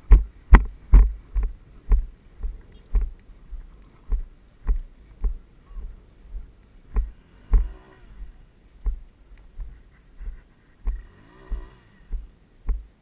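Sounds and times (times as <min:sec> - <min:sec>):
footsteps through long grass: 0:00.0 - 0:12.9.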